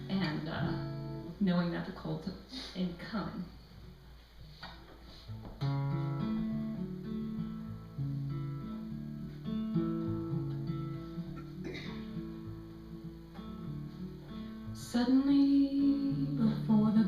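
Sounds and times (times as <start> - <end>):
acoustic guitar chords: 0.0 - 2.1, 3.2 - 17.0.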